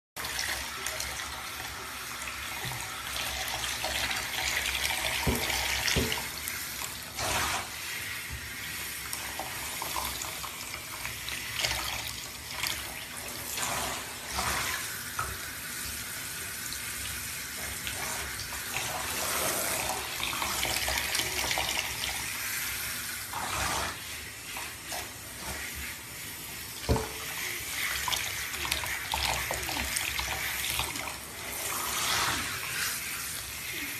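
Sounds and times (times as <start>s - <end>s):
shower spraying into bathtub: 0.2s - 33.9s.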